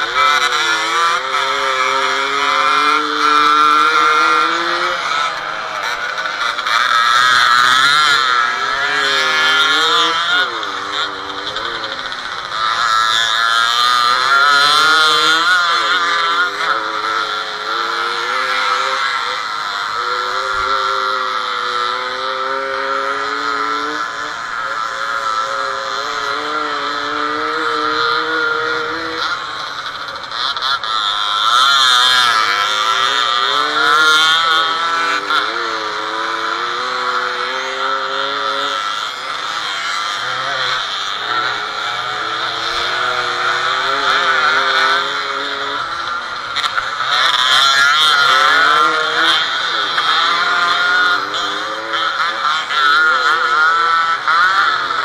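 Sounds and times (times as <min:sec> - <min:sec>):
other motorcycle engines: 0:00.0 - 0:55.0
two-stroke motorcycle engine revving: 0:00.0 - 0:55.0.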